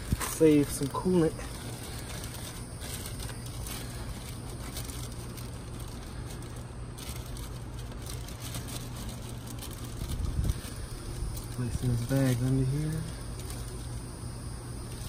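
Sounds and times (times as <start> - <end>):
plastic bag crinkling: 0.0 - 15.0
steady low hum: 0.0 - 15.0.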